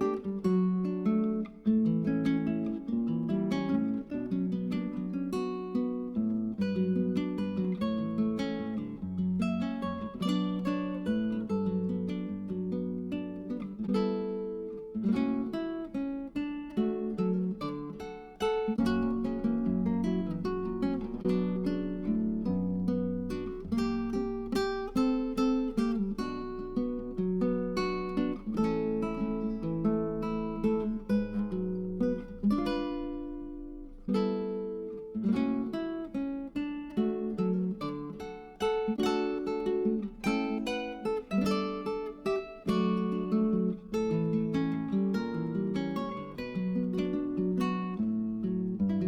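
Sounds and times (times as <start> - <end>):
acoustic guitar music: 0.0 - 49.0.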